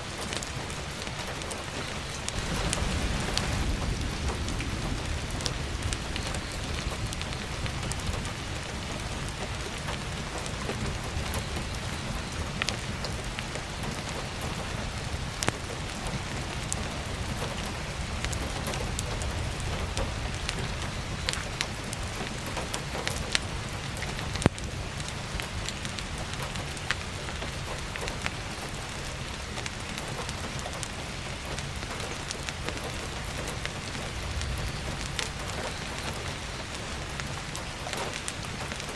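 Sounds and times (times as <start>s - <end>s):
firewood crackling and popping: 0.0s - 38.9s
heavy rain: 0.0s - 38.9s.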